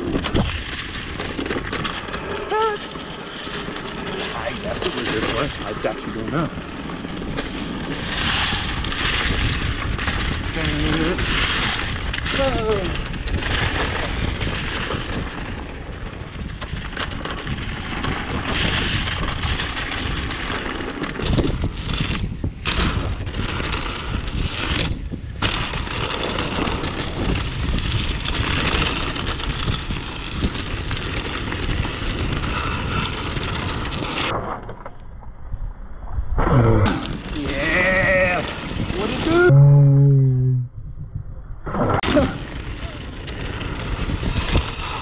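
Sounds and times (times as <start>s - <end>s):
tyres rumbling over roots and rocks: 0.0s - 35.0s, 36.4s - 39.7s, 41.6s - 45.0s
bike rattling over bumps: 0.0s - 35.6s, 36.3s - 39.5s, 40.9s - 45.0s
wind buffeting microphone: 0.0s - 45.0s.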